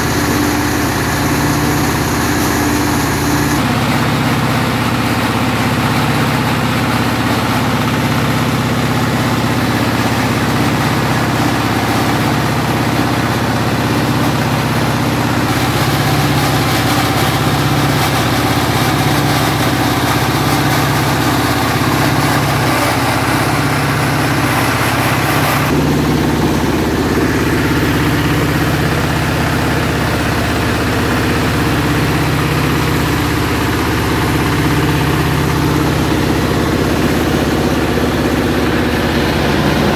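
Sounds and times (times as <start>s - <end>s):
diesel engine running with pulsing beat: 0.0s - 39.9s
rice milling machine: 0.0s - 39.9s.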